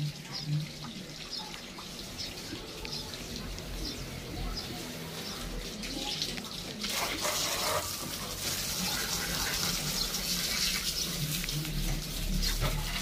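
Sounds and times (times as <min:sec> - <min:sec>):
hose water splashing: 0:00.0 - 0:13.0.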